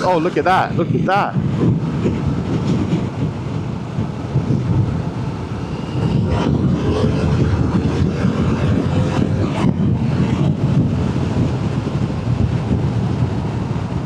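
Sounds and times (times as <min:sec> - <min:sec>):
wind rush over microphone: 0:00.0 - 0:14.0
motorcycle engine at speed: 0:01.7 - 0:14.0.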